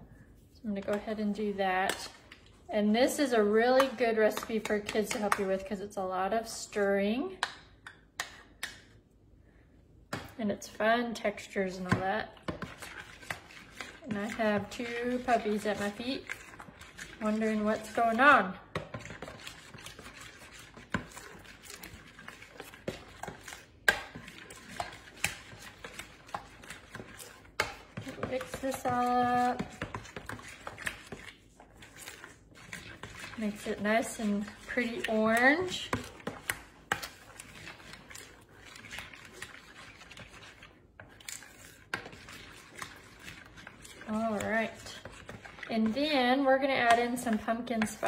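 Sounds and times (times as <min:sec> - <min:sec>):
stirring thick pudding in bowl: 0:00.0 - 0:09.3, 0:10.0 - 0:48.0.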